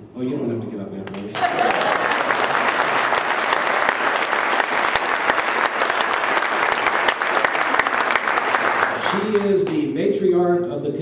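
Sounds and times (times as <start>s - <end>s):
audience applauding: 1.1s - 9.9s.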